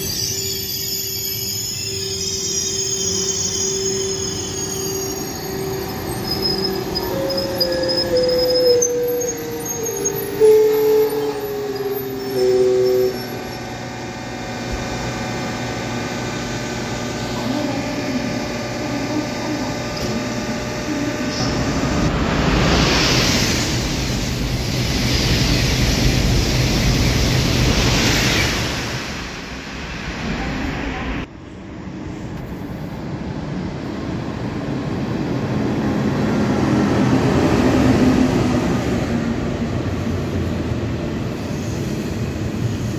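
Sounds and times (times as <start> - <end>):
high-speed train passing: 0.0 - 42.9
rolling rail noise: 0.0 - 42.9.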